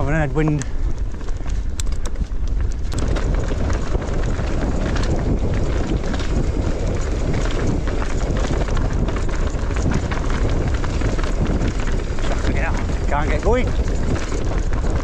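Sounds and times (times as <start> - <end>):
bike tyres rattling on rocky track: 0.0 - 15.0
wind buffeting microphone: 0.0 - 15.0.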